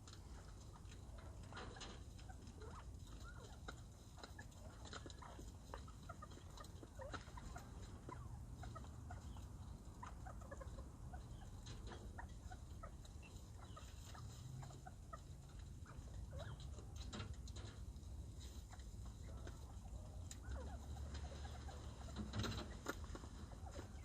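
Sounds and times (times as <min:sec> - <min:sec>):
light ticks and scratches: 0:00.0 - 0:24.0
quail clucking and peeping: 0:00.0 - 0:24.0.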